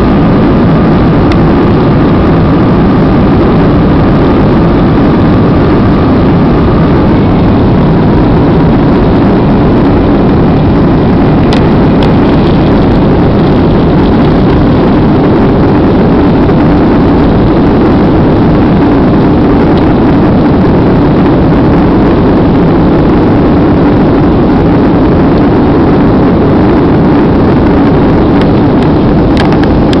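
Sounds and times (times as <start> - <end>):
aircraft cabin engine and airflow: 0.0 - 30.0.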